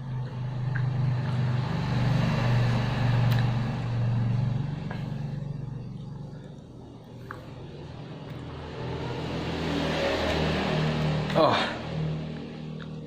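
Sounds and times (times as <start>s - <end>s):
vehicle engine passing by: 0.0s - 6.6s, 7.2s - 13.0s.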